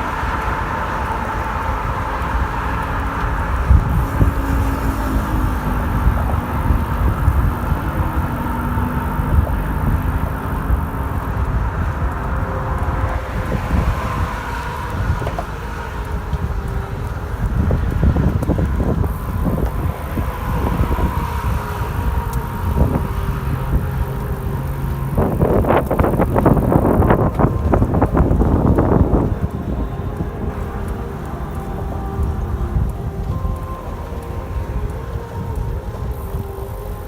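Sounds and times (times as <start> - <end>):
bicycle tyre rumble: 0.0 - 37.0
passing traffic: 0.0 - 37.0
wind rushing over microphone: 0.0 - 37.0.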